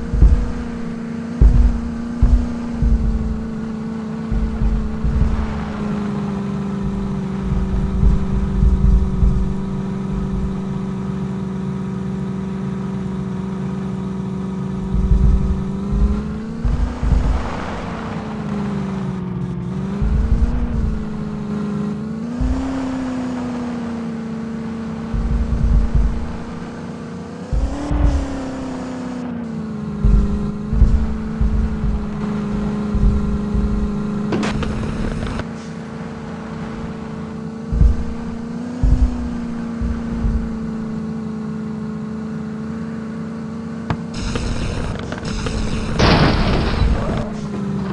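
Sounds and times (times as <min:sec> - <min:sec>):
low thumps: 0:00.0 - 0:35.6, 0:36.2 - 0:42.4, 0:43.8 - 0:47.6
tractor engine running: 0:00.0 - 0:47.9.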